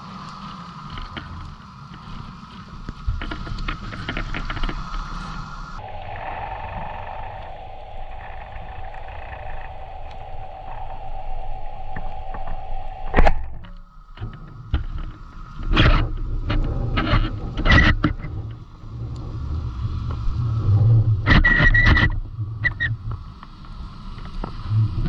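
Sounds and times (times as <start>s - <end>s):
underwater hum: 0.0s - 25.0s.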